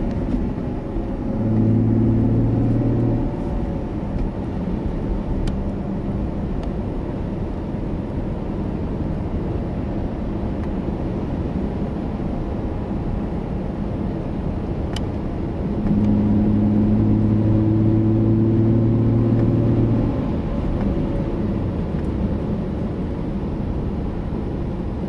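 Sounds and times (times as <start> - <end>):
car exhaust drone: 0.0 - 25.0
road noise: 0.0 - 25.0.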